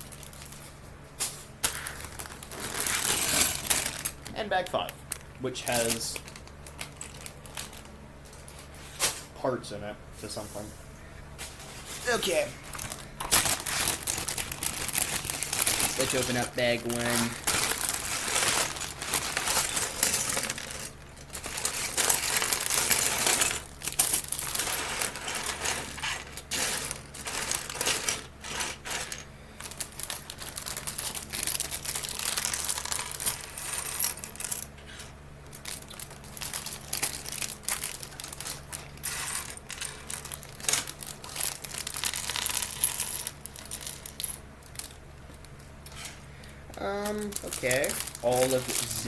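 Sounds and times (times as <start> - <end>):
plastic pieces clattering: 0.0 - 9.2, 11.7 - 46.2, 46.8 - 49.0.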